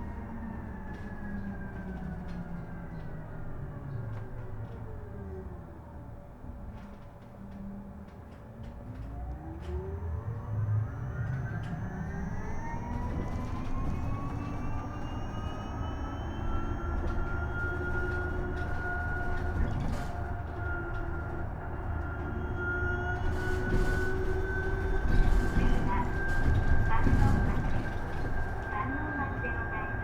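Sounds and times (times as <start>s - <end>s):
electric bus motor whine: 0.0s - 30.0s
low road rumble: 0.0s - 30.0s.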